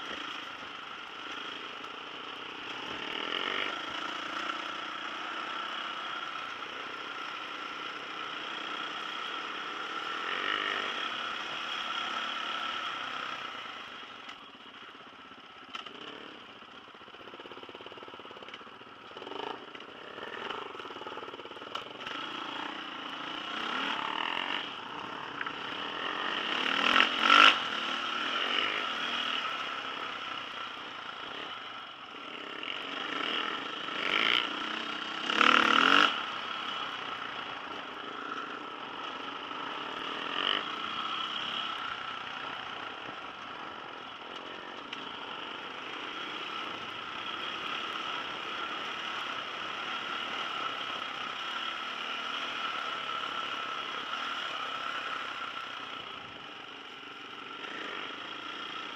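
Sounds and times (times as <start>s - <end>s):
dirt bike engine running: 0.0s - 58.9s.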